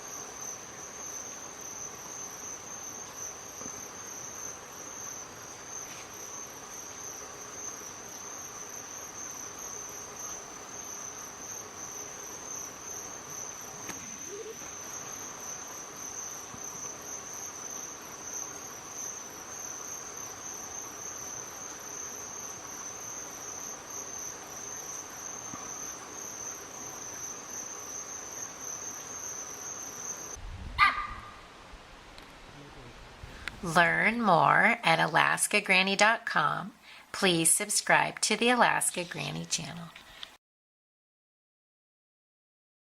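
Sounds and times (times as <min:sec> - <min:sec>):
crickets trilling: 0:00.0 - 0:40.2.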